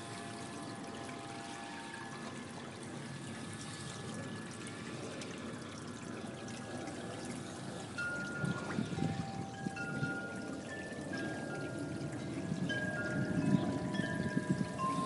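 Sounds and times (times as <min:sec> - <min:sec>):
water pouring into pond: 0:00.0 - 0:15.0.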